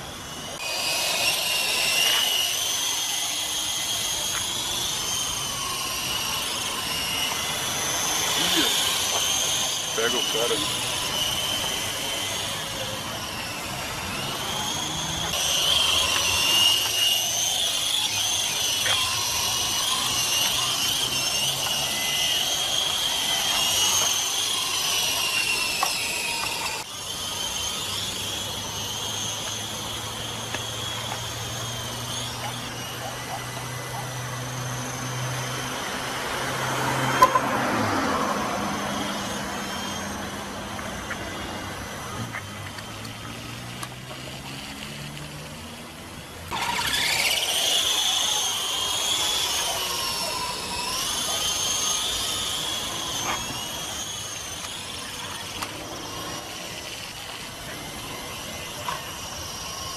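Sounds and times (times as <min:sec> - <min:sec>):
rc helicopter rotors whining: 0:00.0 - 0:59.9.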